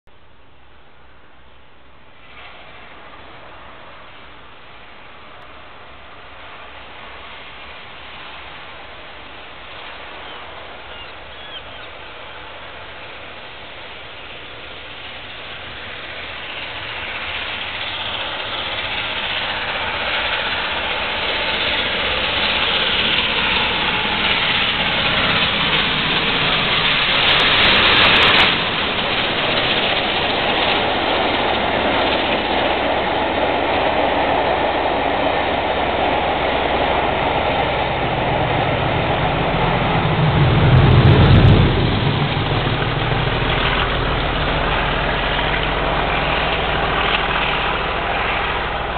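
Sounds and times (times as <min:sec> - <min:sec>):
diesel locomotive engine drone: 0:00.1 - 0:48.9
steam locomotive passing: 0:00.7 - 0:48.9
coaches rolling on rails: 0:02.0 - 0:48.9.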